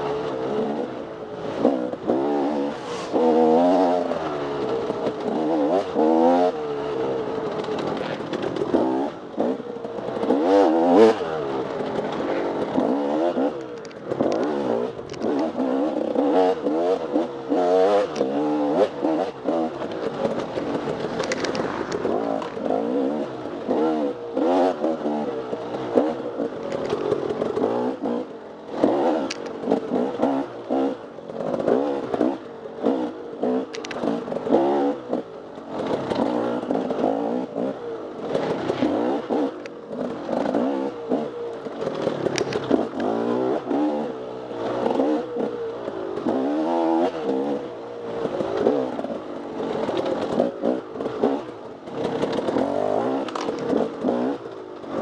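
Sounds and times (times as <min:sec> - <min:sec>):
motorcycle engine revving: 0:00.0 - 0:55.0
bike and terrain clattering: 0:01.5 - 0:55.0.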